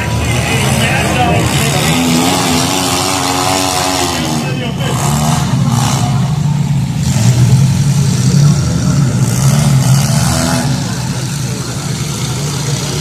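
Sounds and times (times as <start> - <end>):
car engines revving loudly: 0.0 - 13.0.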